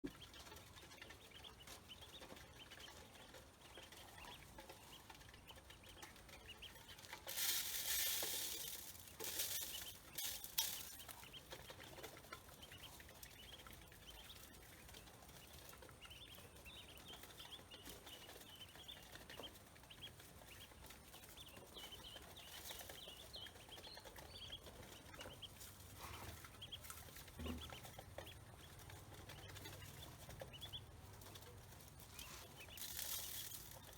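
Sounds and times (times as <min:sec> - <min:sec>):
ducklings peeping: 0:00.0 - 0:33.9.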